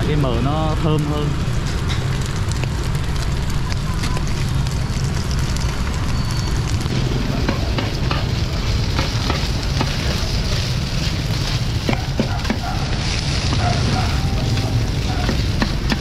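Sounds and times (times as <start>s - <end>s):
cakes sizzling in lard: 0.0s - 16.0s.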